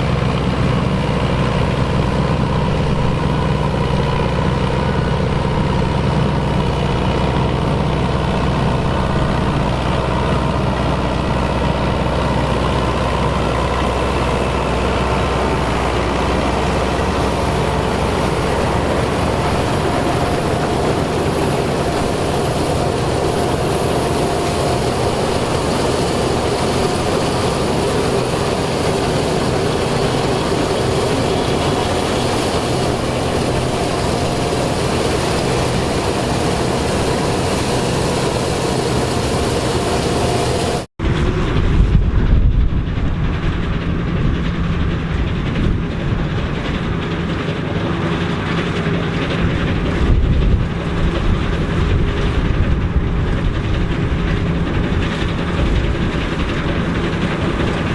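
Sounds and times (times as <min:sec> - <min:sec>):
diesel engine running: 0:00.0 - 0:57.9
machine deep rumble: 0:00.0 - 0:57.9.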